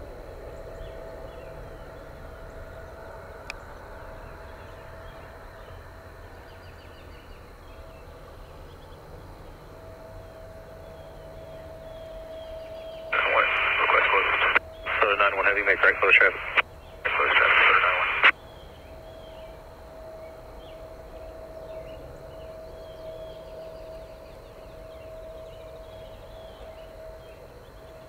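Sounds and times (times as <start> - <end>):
thin steady whine: 0.0 - 28.0.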